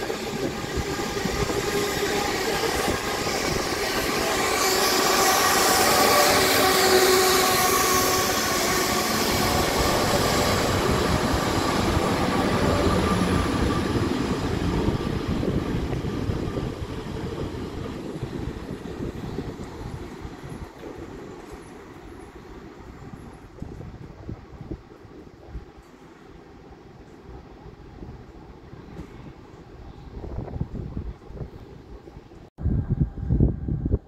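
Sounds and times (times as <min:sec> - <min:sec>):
train wheels rumbling on rails: 0:00.0 - 0:32.5
train hum: 0:00.0 - 0:34.0.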